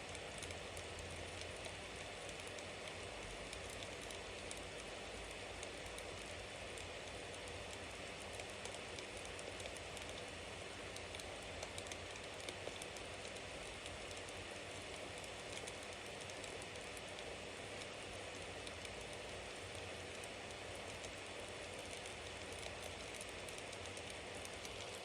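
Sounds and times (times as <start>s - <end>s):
wood crackling and popping: 0.1s - 25.0s.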